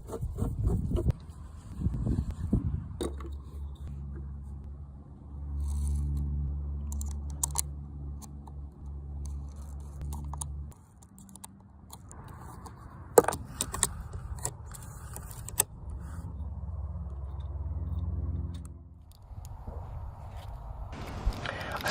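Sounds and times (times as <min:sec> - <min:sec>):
low hum: 0:00.0 - 0:21.9.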